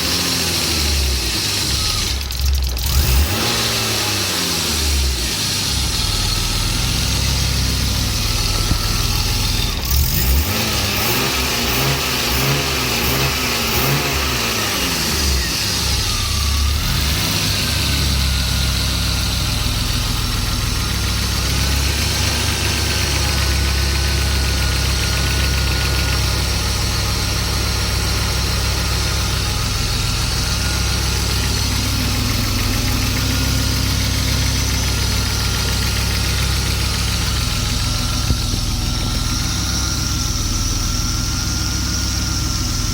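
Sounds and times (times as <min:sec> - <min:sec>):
engine ticking: 0:00.0 - 0:04.2, 0:04.8 - 0:42.9
car engine revving and idling: 0:00.0 - 0:42.9.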